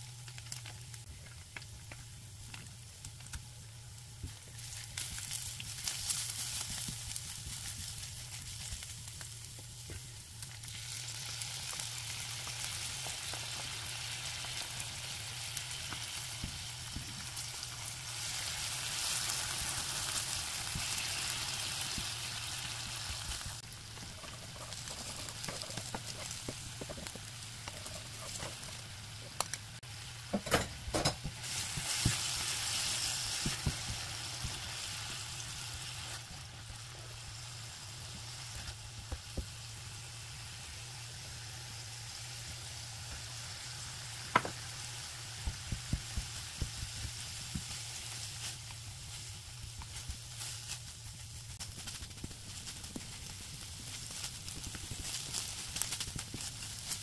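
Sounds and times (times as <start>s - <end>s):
vegetables sizzling in a frying pan: 0.0s - 57.0s.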